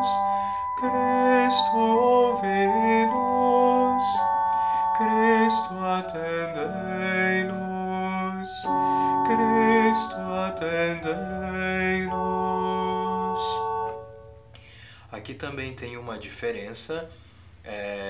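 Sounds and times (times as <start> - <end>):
keyboard organ chords: 0.0 - 15.0.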